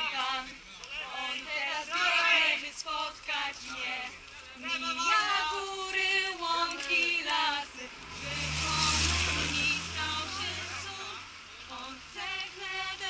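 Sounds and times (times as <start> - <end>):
group singing while walking: 0.0 - 13.0.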